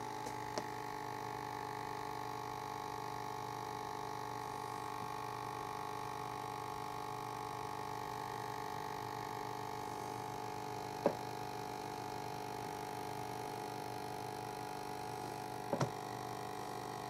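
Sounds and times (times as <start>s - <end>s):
steady hum with held tones: 0.0s - 17.0s.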